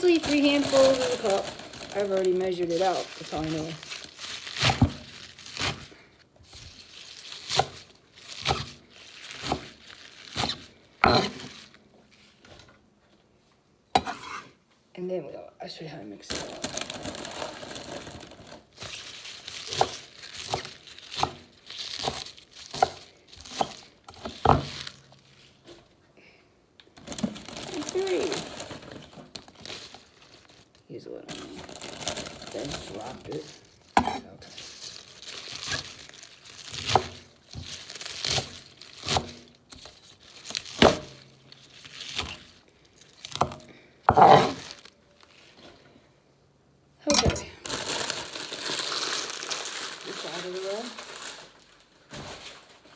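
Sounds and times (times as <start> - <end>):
food packaging crinkling: 0.0 - 12.7, 16.3 - 25.9, 26.8 - 46.0, 47.1 - 52.9.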